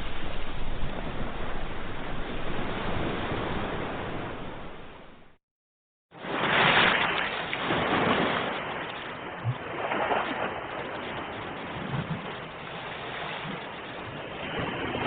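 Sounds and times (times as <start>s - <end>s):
waves breaking and washing: 0.0s - 5.4s, 6.1s - 15.0s.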